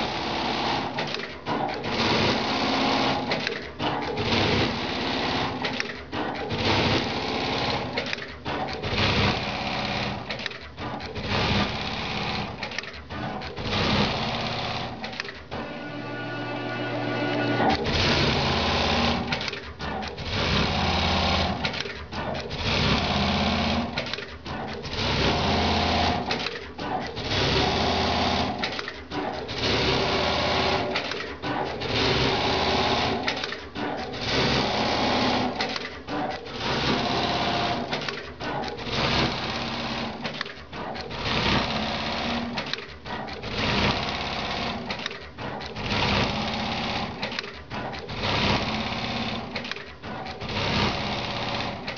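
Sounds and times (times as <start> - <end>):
sewing machine stitching: 0.0 - 51.9.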